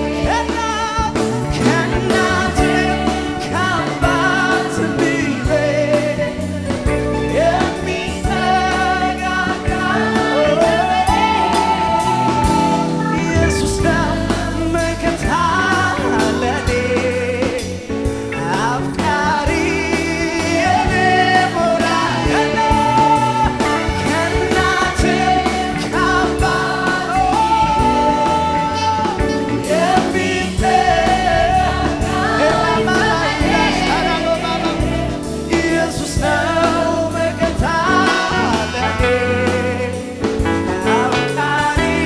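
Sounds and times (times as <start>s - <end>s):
choir singing: 0.0s - 17.6s, 18.6s - 40.2s, 40.9s - 42.0s
band playing: 0.0s - 42.0s
steady drum beat: 0.0s - 42.0s.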